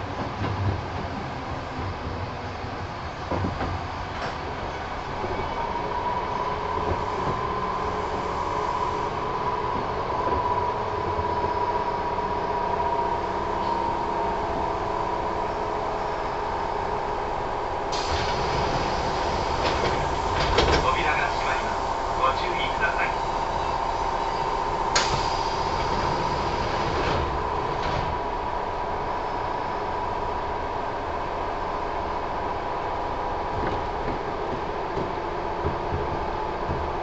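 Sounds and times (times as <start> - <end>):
train wheel and rail rumble: 0.0 - 37.0.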